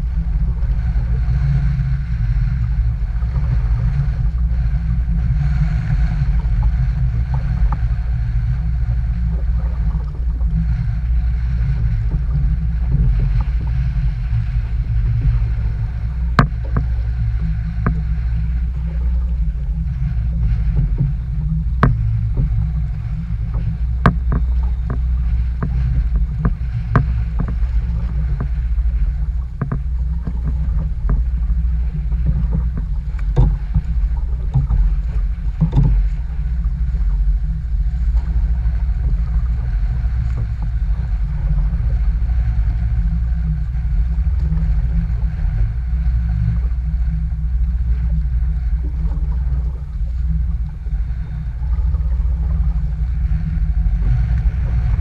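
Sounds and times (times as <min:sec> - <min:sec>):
strong wind rumble: 0:00.0 - 0:55.0.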